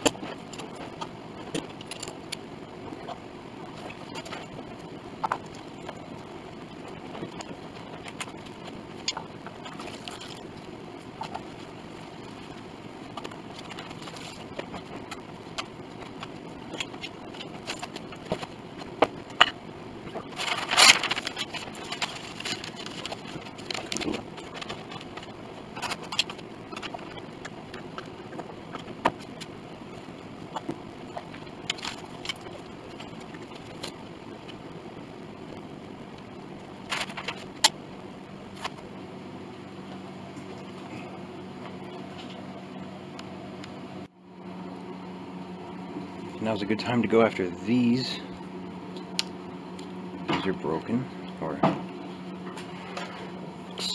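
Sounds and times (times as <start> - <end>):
steady background noise: 0.0 - 53.9.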